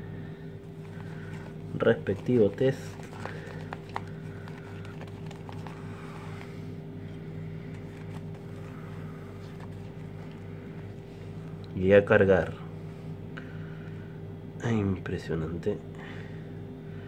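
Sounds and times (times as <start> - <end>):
low pulsing mechanical hum: 0.0 - 17.0.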